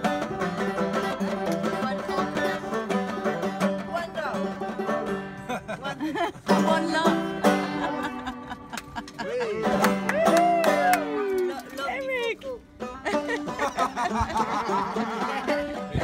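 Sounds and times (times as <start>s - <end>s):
banjo plucked and strummed: 0.0s - 16.0s.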